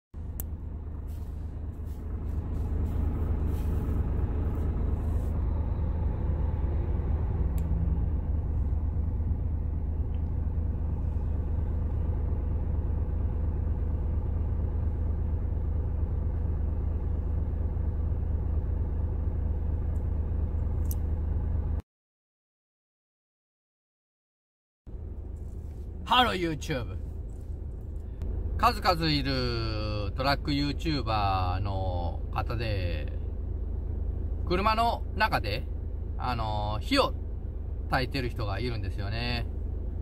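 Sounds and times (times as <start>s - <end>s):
diesel engine idling: 0.2s - 21.8s, 24.9s - 40.0s.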